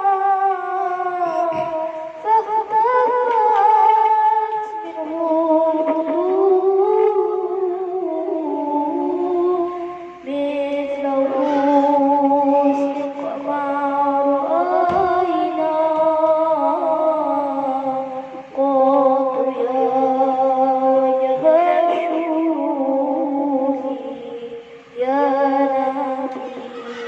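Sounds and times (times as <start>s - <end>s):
man singing devotional chant: 0.0s - 27.0s.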